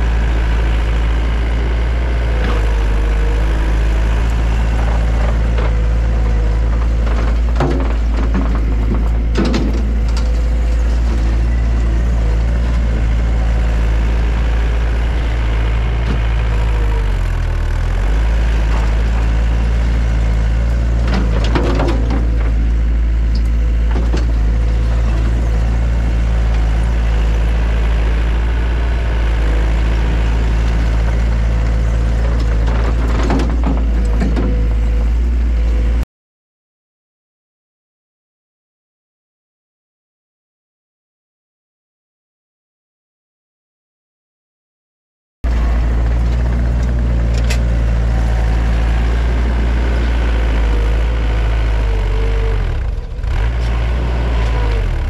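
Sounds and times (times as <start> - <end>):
track loader engine running: 0.0 - 36.0, 45.4 - 55.0.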